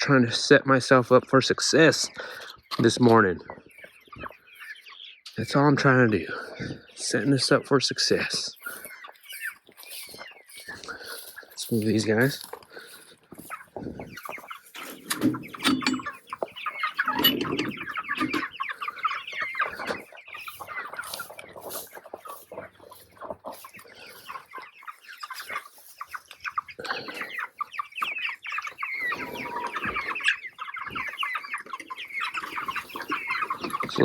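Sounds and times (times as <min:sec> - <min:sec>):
chickens clucking and peeping: 0:00.0 - 0:34.0.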